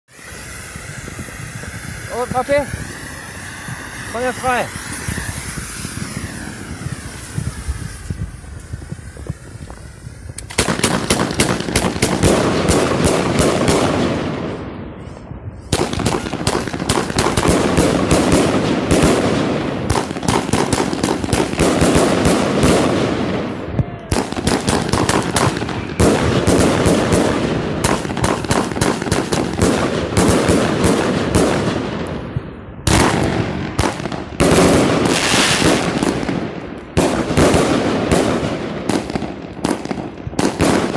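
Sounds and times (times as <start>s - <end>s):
fireworks shots and bursts: 0.0s - 40.9s.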